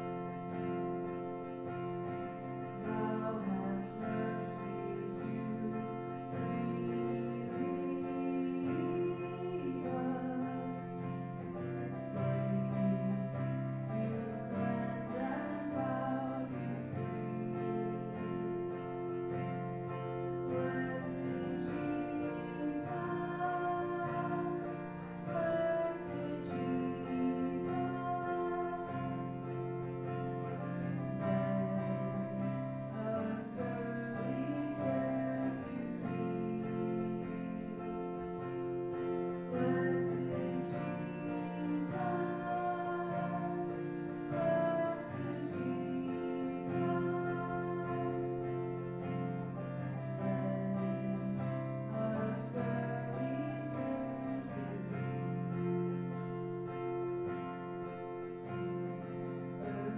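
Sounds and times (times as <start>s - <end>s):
church guitar music: 0.0s - 59.9s.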